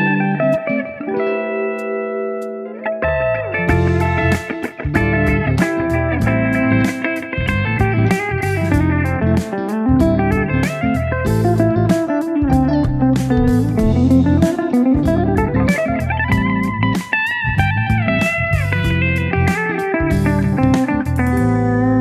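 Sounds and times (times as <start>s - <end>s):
electric guitar solo: 0.0s - 22.0s
backing track with bass and drums: 3.6s - 22.0s.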